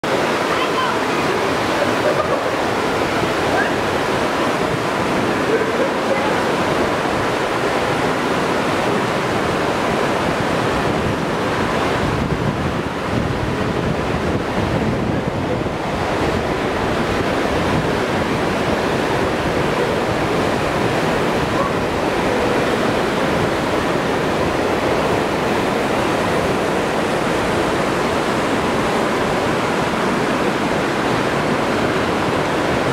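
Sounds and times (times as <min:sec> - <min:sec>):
creek rushing over rapids: 0:00.0 - 0:32.9.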